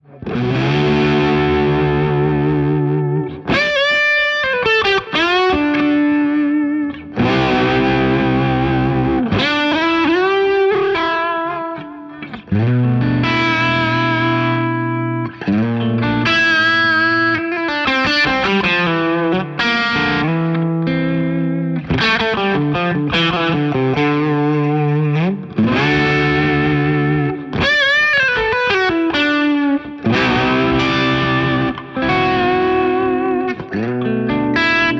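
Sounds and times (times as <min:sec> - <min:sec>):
distorted electric guitar: 0:00.0 - 0:34.9.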